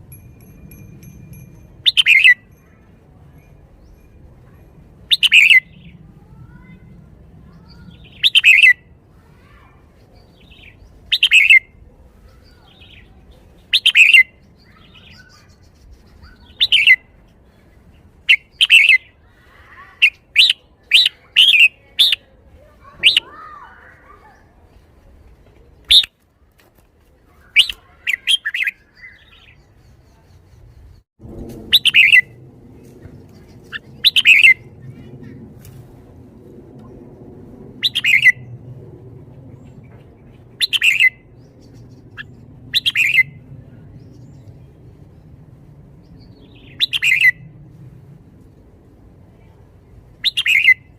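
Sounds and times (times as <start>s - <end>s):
bird singing clear phrases: 0.2s - 31.1s, 31.7s - 35.8s, 37.7s - 38.7s, 39.3s - 47.6s, 49.4s - 50.9s.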